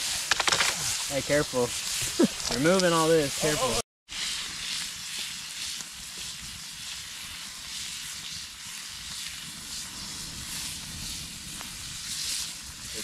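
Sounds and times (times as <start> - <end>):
meat sizzling in hot grease: 0.0 - 13.0.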